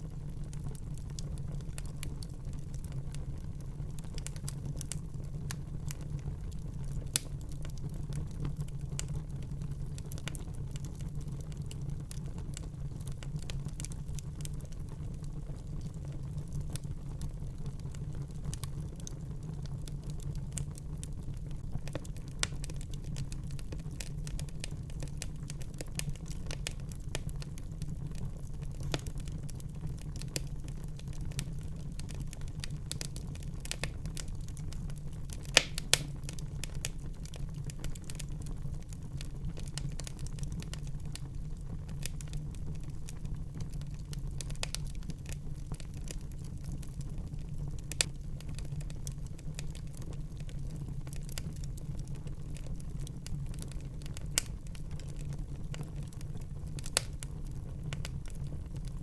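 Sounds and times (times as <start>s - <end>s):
fire crackles: 0.0s - 59.0s
wood fire burning: 0.0s - 59.0s
fire popping: 0.1s - 59.0s.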